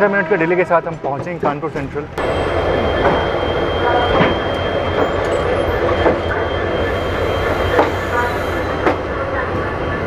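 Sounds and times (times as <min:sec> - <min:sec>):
rumble of train wheels on rail: 0:00.8 - 0:10.0.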